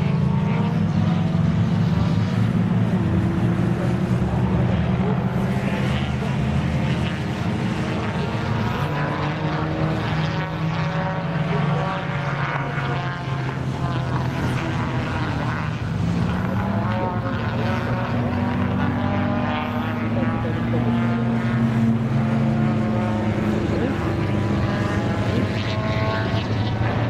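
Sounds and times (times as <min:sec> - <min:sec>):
racing car engines: 0:00.0 - 0:27.0.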